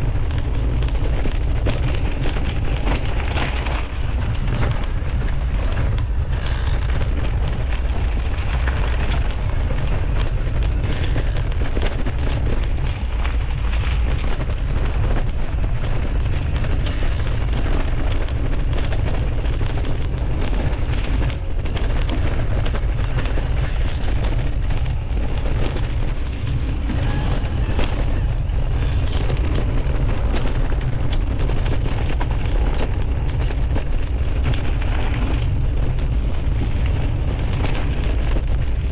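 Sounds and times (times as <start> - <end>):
bike rattles and clicks: 0.0 - 38.9
wind buffeting and tyre rumble: 0.0 - 38.9.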